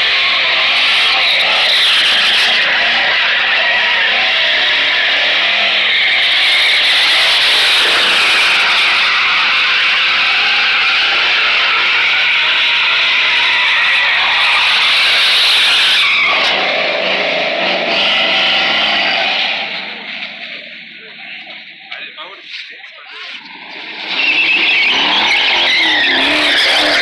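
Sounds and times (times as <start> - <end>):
tires screeching: 0.0 - 27.0
truck engine revving: 0.0 - 27.0.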